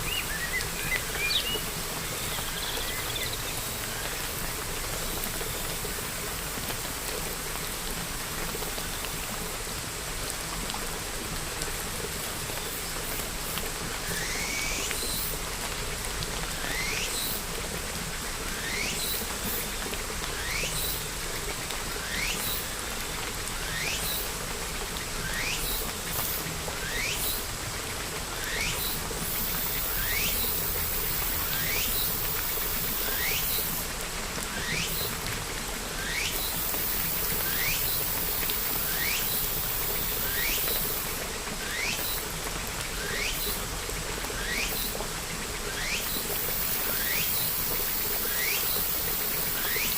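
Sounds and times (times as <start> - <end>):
rain hissing: 0.0 - 49.9.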